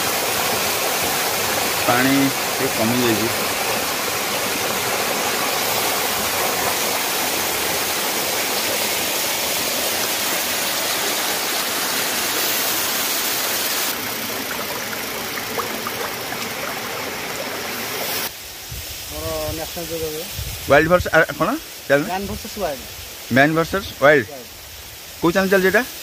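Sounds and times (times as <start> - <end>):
waterfall rushing and splashing: 0.0 - 26.0.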